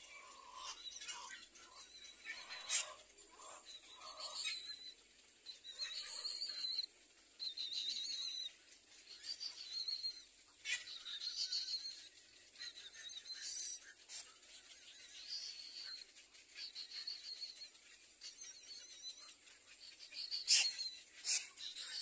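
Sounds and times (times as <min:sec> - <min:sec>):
nestlings begging calls: 0:00.0 - 0:08.5, 0:09.1 - 0:22.0.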